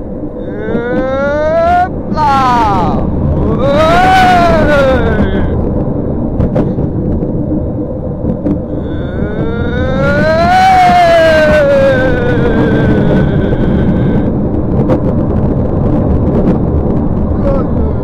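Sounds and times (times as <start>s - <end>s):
roller coaster on steel track: 0.0s - 18.0s.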